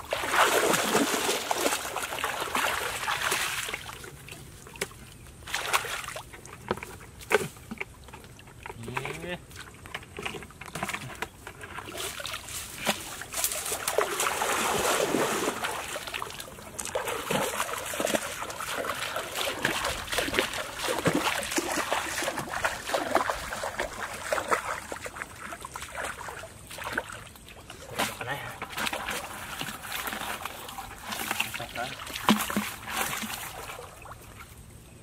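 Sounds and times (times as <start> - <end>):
person wading through river water: 0.0 - 35.0.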